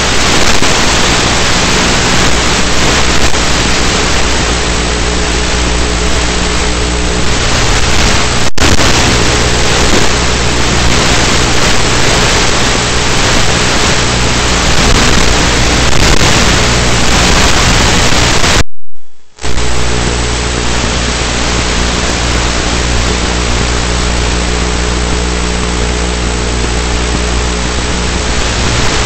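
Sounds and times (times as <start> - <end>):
loud steady hiss: 0.0 - 18.6, 19.2 - 29.0
low steady hum: 0.0 - 29.0.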